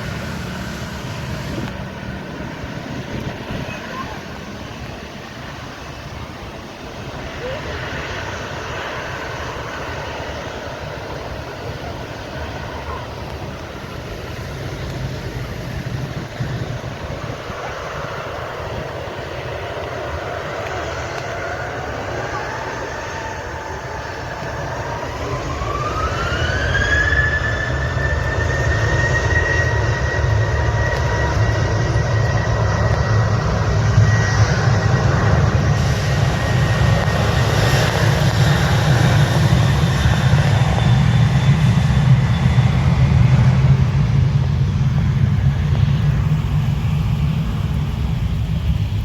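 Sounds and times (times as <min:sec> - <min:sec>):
jet engines whining: 0:00.0 - 0:49.0.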